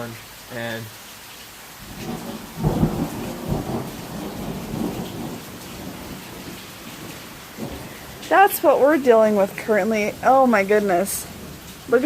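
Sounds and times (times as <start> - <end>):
heavy rain hissing: 0.0 - 12.0
thunder rumbling: 1.8 - 12.0.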